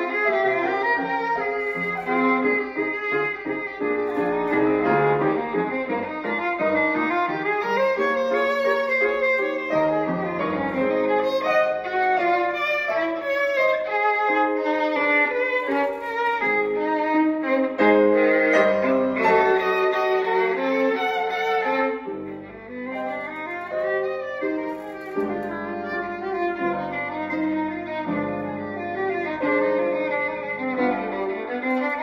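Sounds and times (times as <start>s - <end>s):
piano accompaniment: 0.0s - 32.0s
viola bowed melody: 0.0s - 32.0s.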